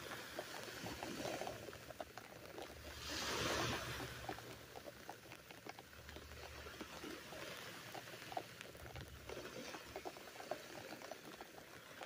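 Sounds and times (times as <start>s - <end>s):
raindrops pattering on cloth: 0.0s - 12.0s.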